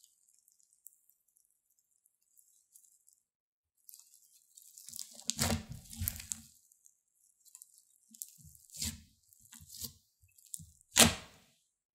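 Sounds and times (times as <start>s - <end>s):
slime squishing with crackles: 0.0s - 11.8s.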